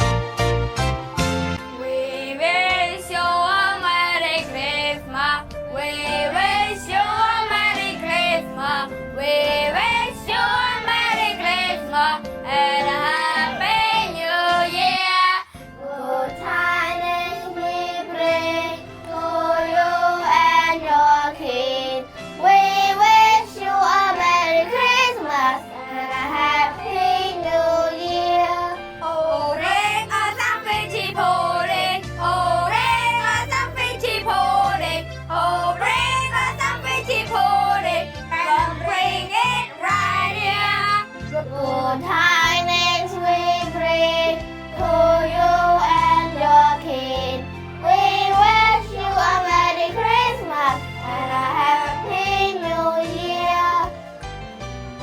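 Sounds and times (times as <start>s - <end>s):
instrumental backing music: 0.0s - 55.0s
children singing: 1.8s - 53.9s.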